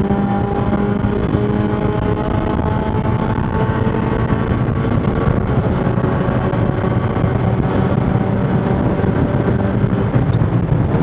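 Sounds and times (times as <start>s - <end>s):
race car engine running hard: 0.0s - 11.0s
road and wind noise: 0.0s - 11.0s.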